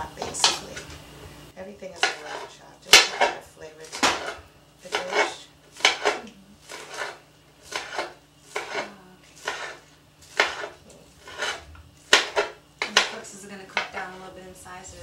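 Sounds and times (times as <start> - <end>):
knife chopping on cutting board: 2.0 - 14.3.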